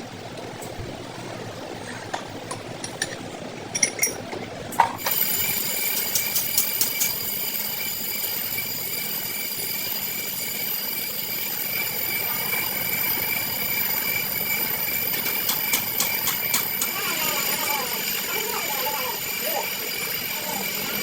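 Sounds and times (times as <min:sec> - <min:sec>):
machine whining: 0:03.7 - 0:21.0.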